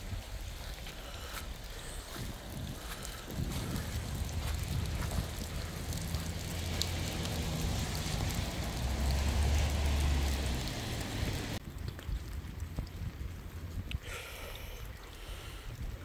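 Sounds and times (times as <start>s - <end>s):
heavy rain falling: 0.0s - 14.3s
wind rumbling on microphone: 0.0s - 16.0s.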